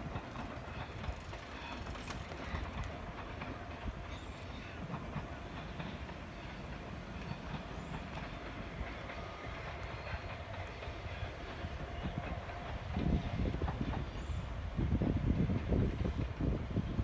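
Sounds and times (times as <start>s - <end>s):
distant train rumbling past: 0.0s - 17.0s
wheels clicking over rail joints: 0.0s - 17.0s.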